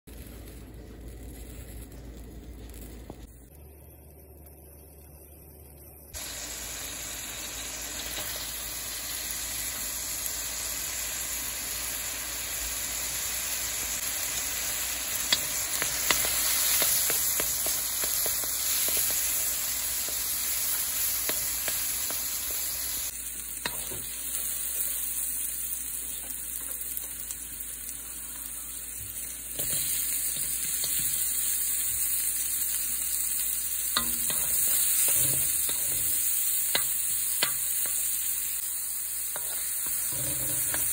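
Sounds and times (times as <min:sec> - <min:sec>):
garlic sizzling in butter: 0:00.1 - 0:40.9.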